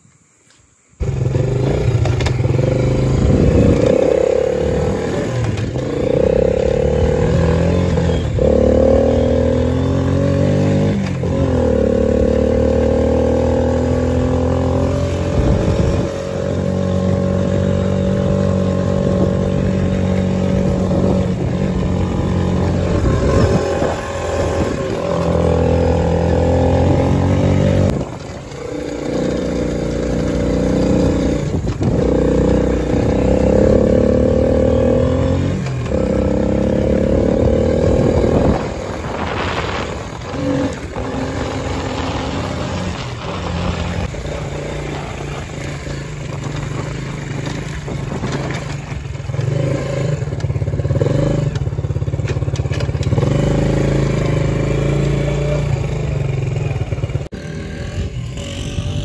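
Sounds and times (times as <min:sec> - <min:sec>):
small engine revving: 0:00.5 - 0:59.0.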